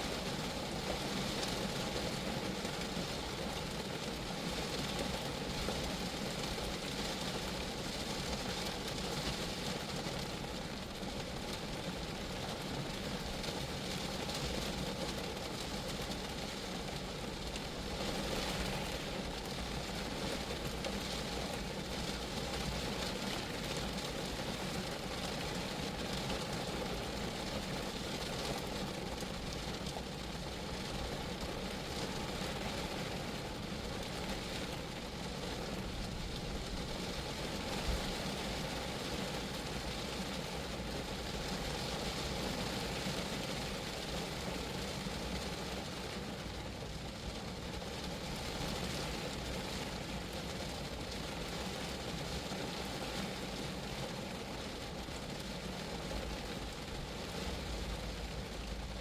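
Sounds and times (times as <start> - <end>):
rain on a car roof: 0.0 - 59.0.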